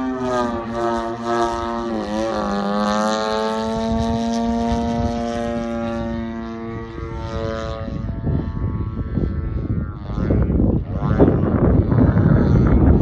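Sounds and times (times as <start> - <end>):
model plane engine droning: 0.0 - 13.0
wind buffeting microphone: 0.0 - 13.0.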